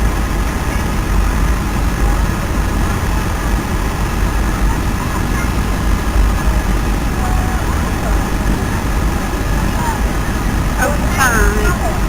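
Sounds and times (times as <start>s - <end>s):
jet engines rumbling in cabin: 0.0s - 12.0s.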